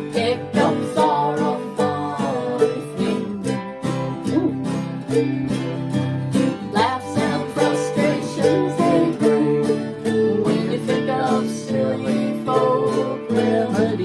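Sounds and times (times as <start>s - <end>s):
acoustic country gospel music: 0.0s - 14.0s
plucked guitar: 0.0s - 14.0s.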